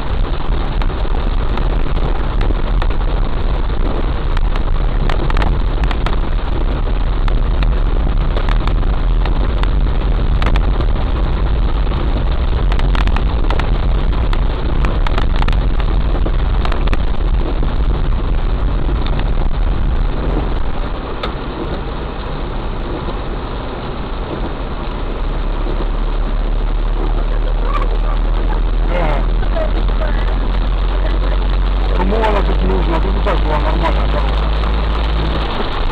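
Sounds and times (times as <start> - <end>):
car engine humming: 0.0 - 35.9
heavy rain on a car: 0.0 - 35.9.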